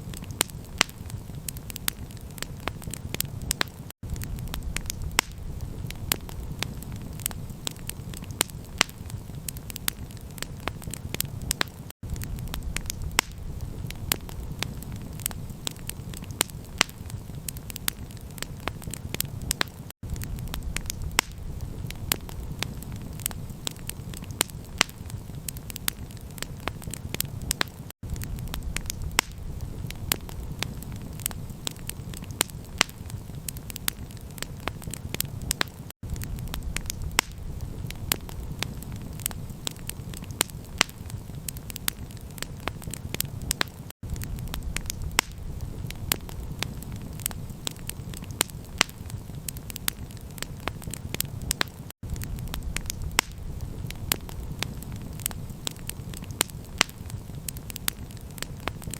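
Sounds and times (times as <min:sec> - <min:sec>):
campfire crackling: 0:00.0 - 0:58.9.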